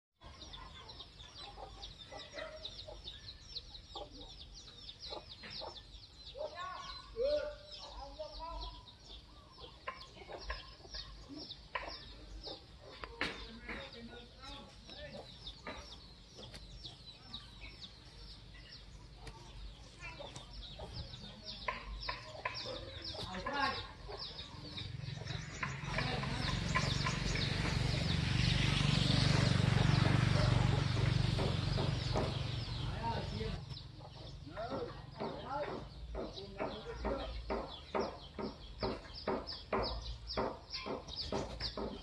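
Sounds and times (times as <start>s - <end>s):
chickens clucking: 0.2s - 42.0s
small birds chirping: 0.2s - 42.0s.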